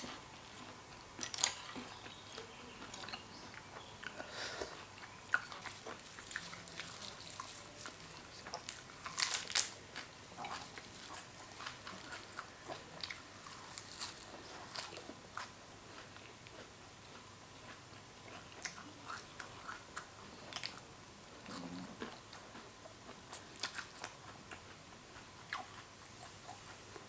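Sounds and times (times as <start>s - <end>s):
person chewing and biting: 1.2s - 20.8s, 23.3s - 26.8s.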